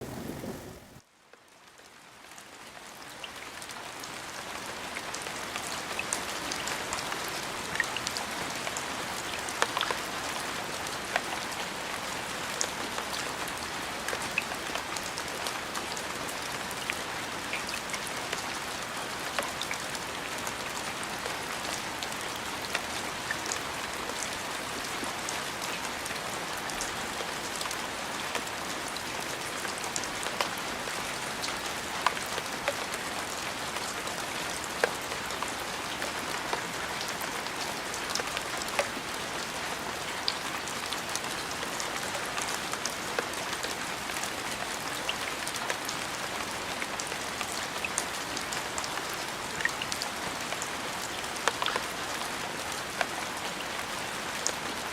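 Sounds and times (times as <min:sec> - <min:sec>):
raindrops ticking on a surface: 0:00.0 - 0:54.9
steady rain falling: 0:00.0 - 0:54.9.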